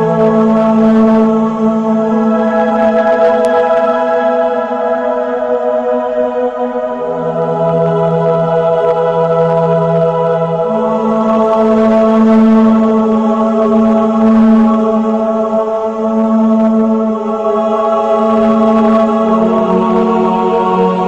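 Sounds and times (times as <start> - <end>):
sustained keyboard pad chords: 0.0 - 21.0.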